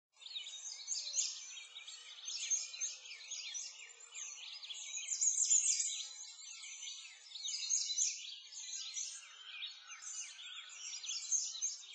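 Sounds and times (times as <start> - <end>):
small birds chirping: 0.2 - 11.9.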